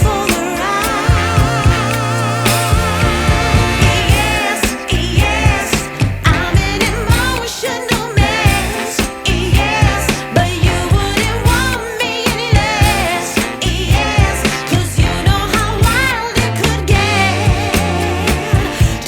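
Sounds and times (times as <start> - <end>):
music with singing: 0.0 - 19.0.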